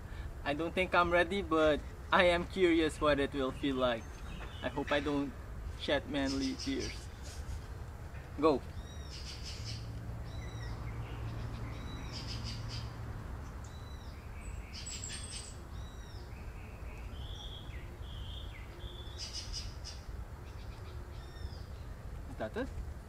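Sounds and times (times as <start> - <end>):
birds chirping: 0.0 - 22.8
low outdoor rumble: 0.0 - 23.0.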